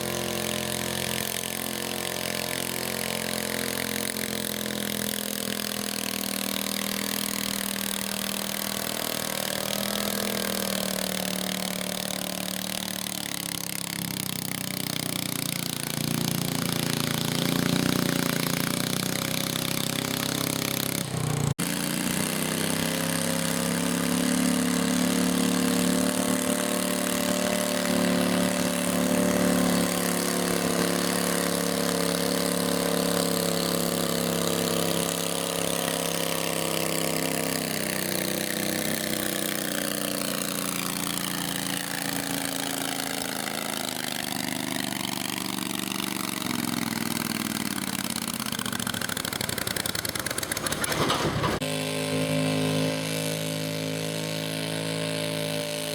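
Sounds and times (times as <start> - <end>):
garden tractor engine running: 0.0 - 55.9.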